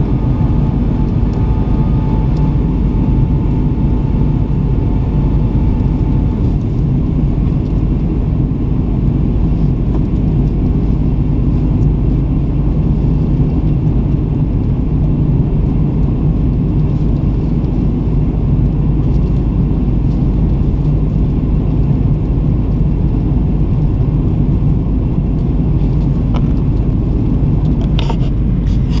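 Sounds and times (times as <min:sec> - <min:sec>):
aircraft cabin engine noise: 0:00.0 - 0:29.0.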